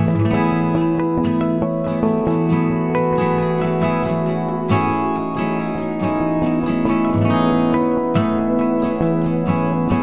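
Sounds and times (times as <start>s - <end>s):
plucked-string music: 0.0s - 10.0s.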